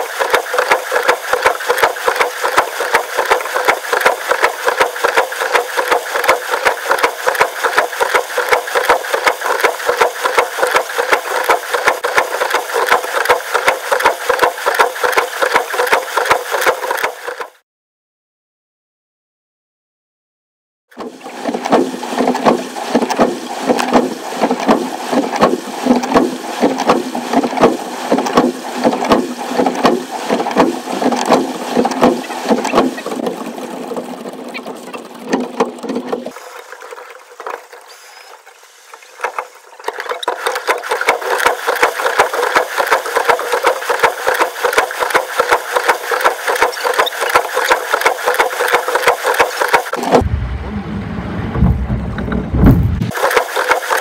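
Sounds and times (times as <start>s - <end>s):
choppy water slapping against boat: 0.0s - 17.4s, 21.0s - 50.3s, 52.7s - 54.0s.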